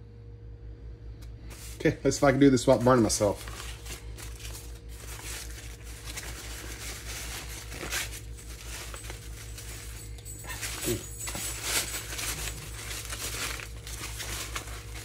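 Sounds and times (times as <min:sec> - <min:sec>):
corn husks rustling and tearing: 0:01.5 - 0:15.0.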